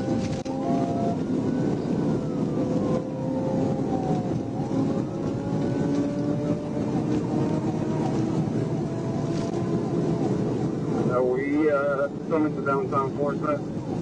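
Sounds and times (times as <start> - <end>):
car driving at high speed: 0.0 - 14.0
police siren wailing: 0.0 - 14.0.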